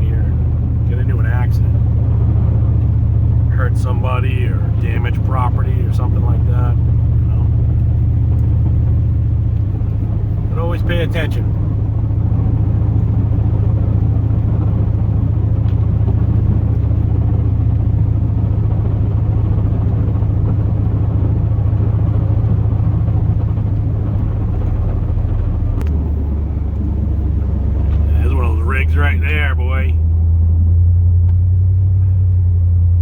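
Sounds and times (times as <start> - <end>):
road noise: 0.0 - 33.0
truck engine drone: 0.0 - 33.0.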